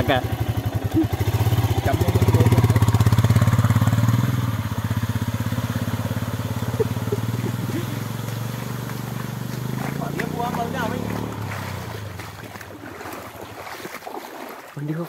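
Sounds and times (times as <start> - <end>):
small motorcycle engine: 0.0 - 13.7
wheels swishing through water: 0.0 - 15.0.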